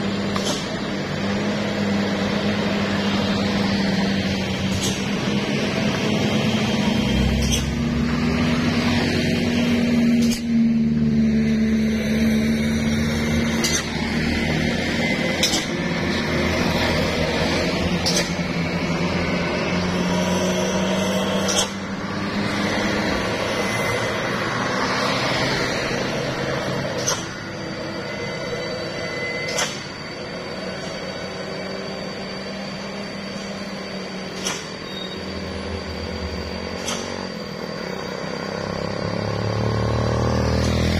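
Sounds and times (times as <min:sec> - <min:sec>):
heavy truck engine running: 0:00.0 - 0:40.9.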